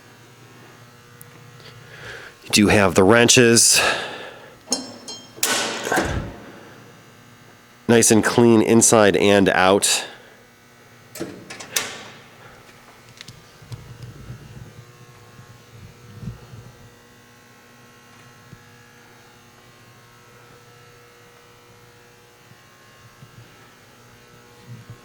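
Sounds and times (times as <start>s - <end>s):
faint electrical hum: 0.0s - 24.8s.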